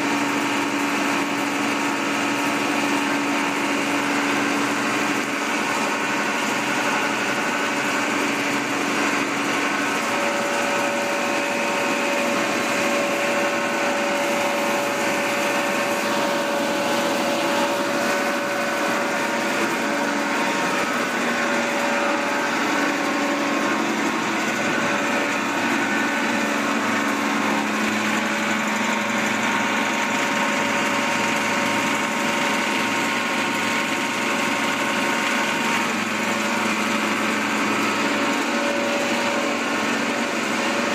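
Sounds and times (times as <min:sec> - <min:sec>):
motors and conveyor belts: 0:00.0 - 0:40.9.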